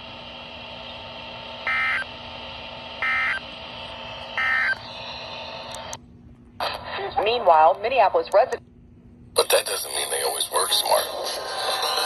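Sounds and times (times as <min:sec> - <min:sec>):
radio hiss and low hum: 0:00.0 - 0:06.0, 0:06.6 - 0:08.6, 0:09.4 - 0:12.0.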